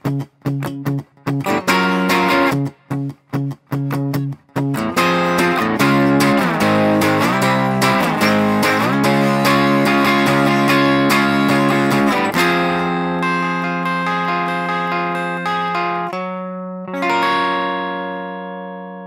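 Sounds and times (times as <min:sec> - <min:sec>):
electric guitar strumming chords: 0:00.0 - 0:19.0
guitar chord ringing: 0:00.0 - 0:19.0
guitar single notes picked: 0:00.0 - 0:19.0.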